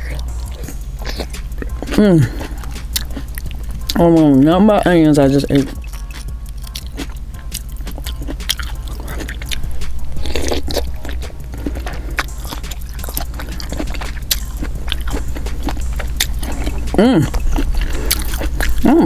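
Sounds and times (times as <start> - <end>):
person chewing with wet smacks: 0.0 - 19.0.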